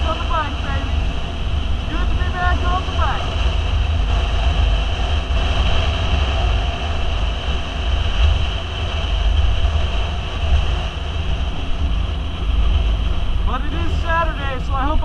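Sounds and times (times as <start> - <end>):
motorcycle engine drone: 0.0 - 15.0
wind buffeting microphone: 0.0 - 15.0.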